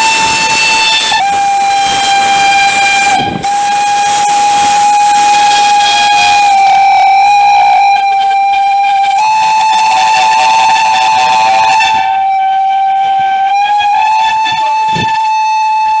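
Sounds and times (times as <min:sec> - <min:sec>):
steam locomotive whistle: 0:00.0 - 0:16.0.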